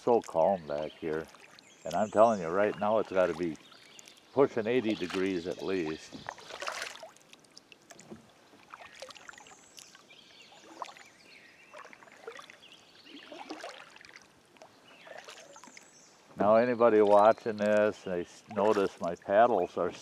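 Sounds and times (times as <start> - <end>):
paddle splashes and drips: 0.0 - 20.0.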